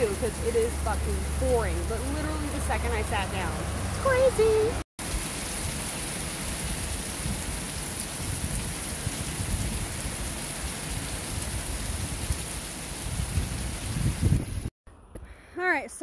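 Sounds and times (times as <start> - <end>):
heavy rain on pavement: 0.0 - 14.7.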